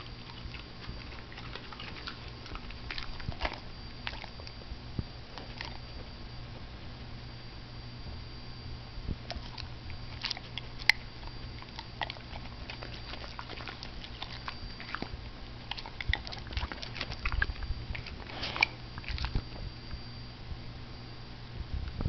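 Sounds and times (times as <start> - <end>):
dog chewing crunchy food: 0.0 - 7.1, 9.0 - 20.2.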